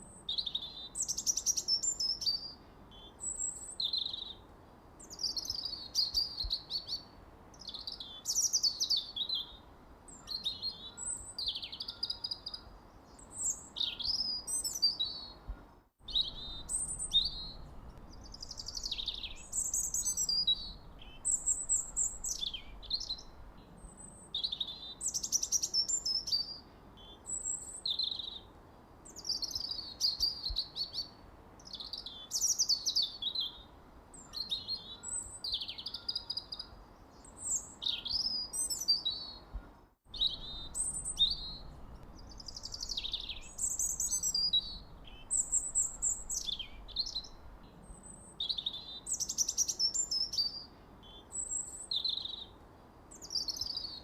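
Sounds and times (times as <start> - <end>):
songbirds chirping and singing: 0.1 - 28.5, 29.1 - 54.0.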